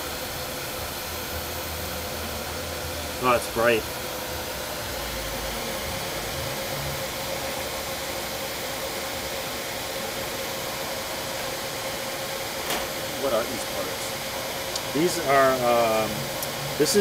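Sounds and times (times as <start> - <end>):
compressor air hiss: 0.0 - 17.0
mid-pitched hum: 0.0 - 17.0.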